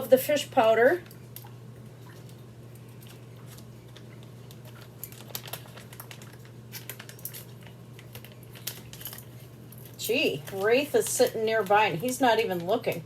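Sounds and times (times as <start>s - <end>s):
washing machine hum: 0.0s - 13.0s.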